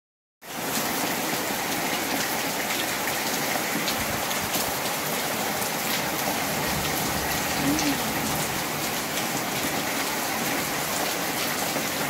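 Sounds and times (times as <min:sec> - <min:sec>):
steady rain falling: 0:00.4 - 0:12.0.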